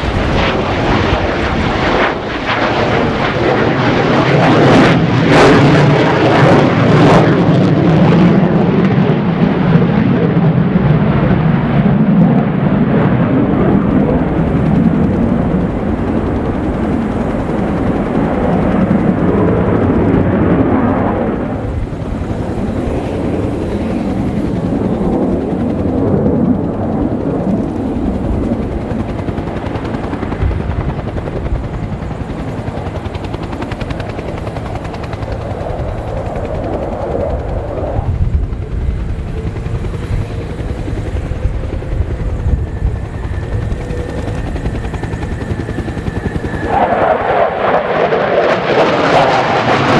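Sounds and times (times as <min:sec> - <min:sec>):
fighter jet engines rumbling: 0:00.0 - 0:49.9.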